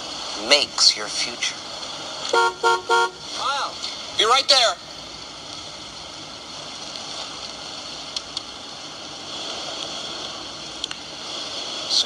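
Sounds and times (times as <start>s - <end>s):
hissing from tv soundtrack: 0.0s - 2.3s, 3.1s - 12.0s.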